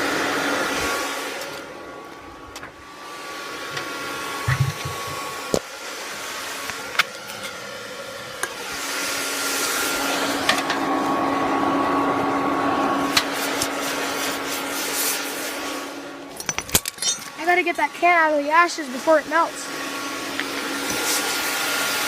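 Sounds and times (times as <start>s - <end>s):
hair dryer blowing air: 0.0s - 16.3s, 17.4s - 22.0s.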